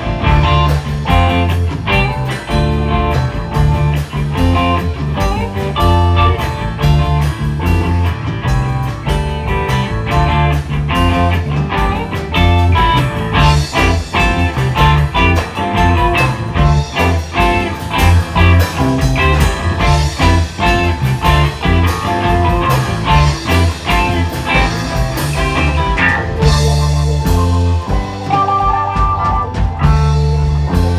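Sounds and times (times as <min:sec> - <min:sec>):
blues-rock band playing: 0:00.0 - 0:30.9.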